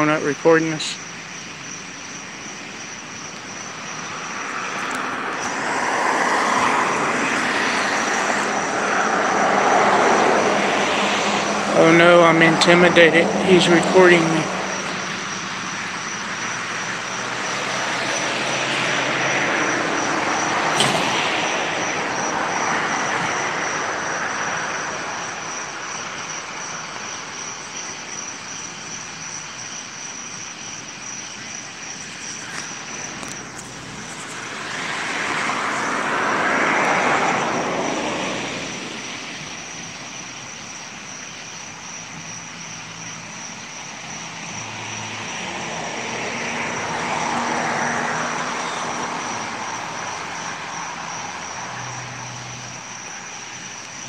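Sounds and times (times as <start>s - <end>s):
vehicles driving past: 0.0s - 54.0s.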